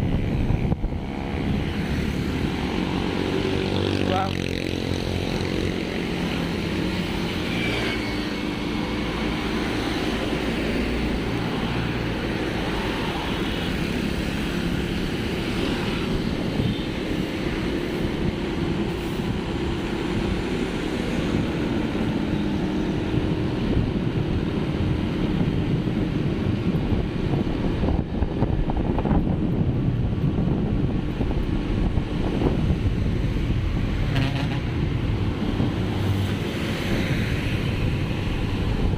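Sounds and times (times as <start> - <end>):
wind buffeting microphone: 0.0 - 13.1, 13.8 - 38.9
vehicle road noise: 0.0 - 38.9.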